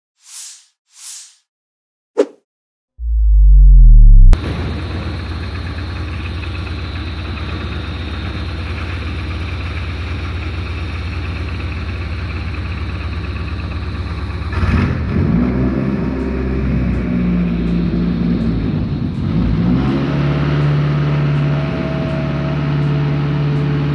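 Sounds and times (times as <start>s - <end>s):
car engine running and revving: 3.0s - 23.9s.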